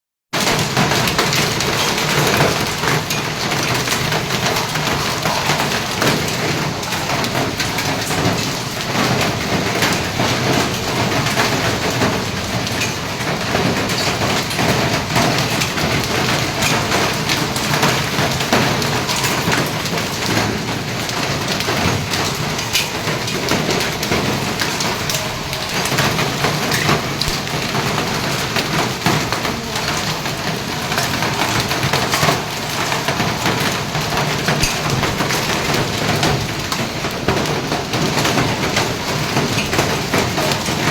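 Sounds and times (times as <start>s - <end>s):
heavy rain falling: 0.4s - 40.9s.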